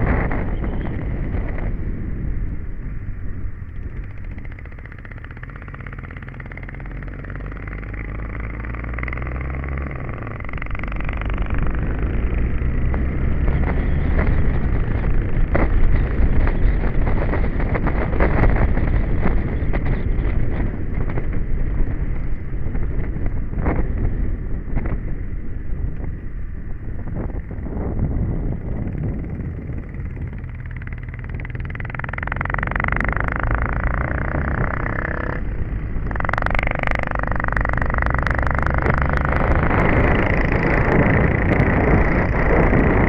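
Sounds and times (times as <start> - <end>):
motorcycle engine running: 0.0 - 43.0
wind buffeting the microphone: 0.0 - 43.0.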